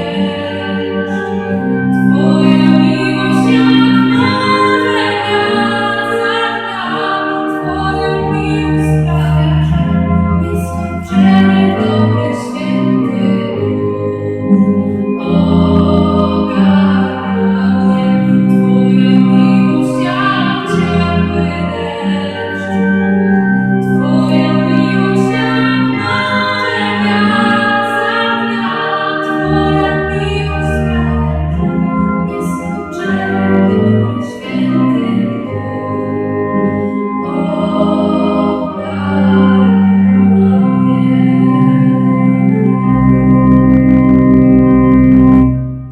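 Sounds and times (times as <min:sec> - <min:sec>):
woman singing slow song: 0:00.0 - 0:22.9, 0:23.8 - 0:36.1, 0:36.7 - 0:42.0
sustained organ chords: 0:00.0 - 0:45.9.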